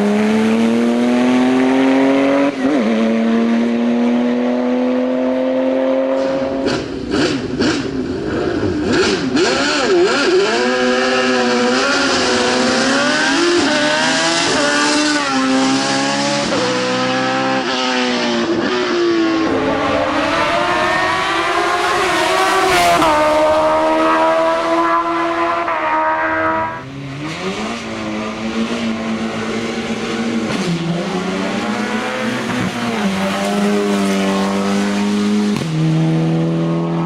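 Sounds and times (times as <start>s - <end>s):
race car engine accelerating: 0.0s - 37.0s.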